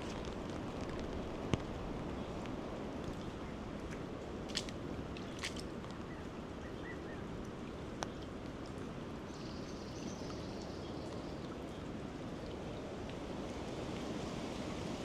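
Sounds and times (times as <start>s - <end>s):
rain: 0.0s - 15.0s
rushing flooded river: 0.0s - 15.0s.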